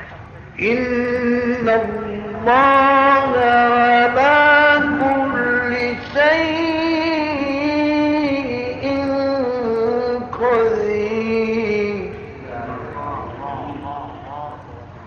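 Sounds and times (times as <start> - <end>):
man chanting: 0.6 - 14.9.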